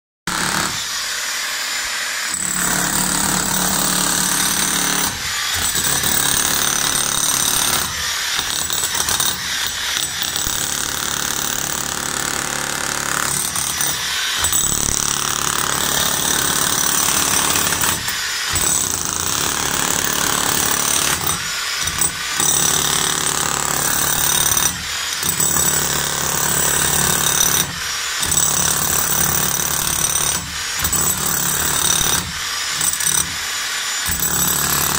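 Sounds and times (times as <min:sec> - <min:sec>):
demolition hammer chiselling concrete: 0:00.3 - 0:34.9.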